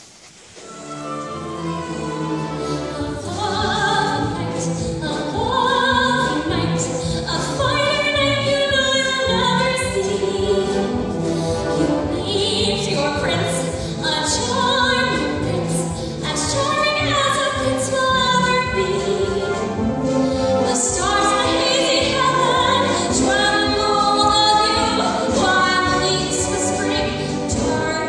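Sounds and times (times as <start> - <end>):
instrumental accompaniment: 0.6 - 28.0
woman singing with vibrato: 0.7 - 28.0.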